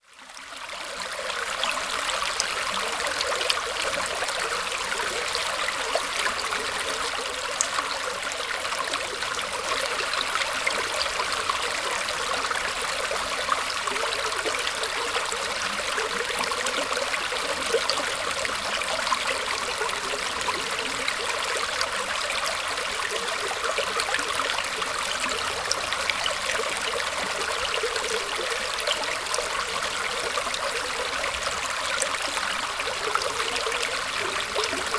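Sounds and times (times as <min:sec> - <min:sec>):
stream trickling over roots: 0:00.0 - 0:34.9.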